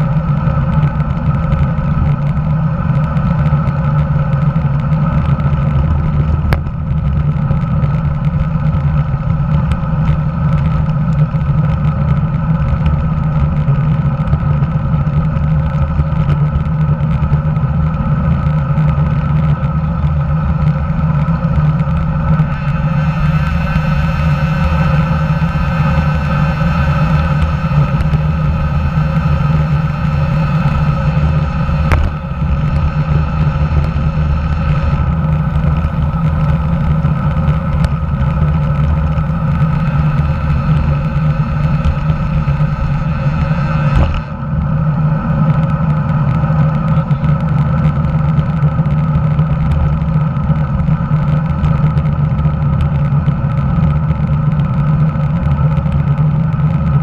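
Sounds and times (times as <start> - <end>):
road and wind rumble: 0.0 - 57.0.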